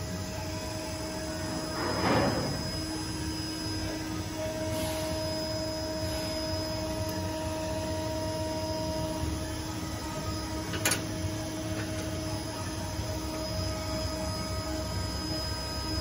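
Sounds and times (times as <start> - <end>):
low hum with held tones: 0.0 - 16.0.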